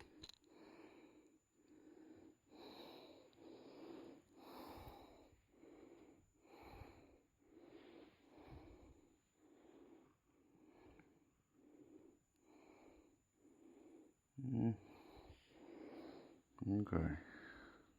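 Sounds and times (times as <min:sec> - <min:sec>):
soft breathing: 0:00.0 - 0:17.9.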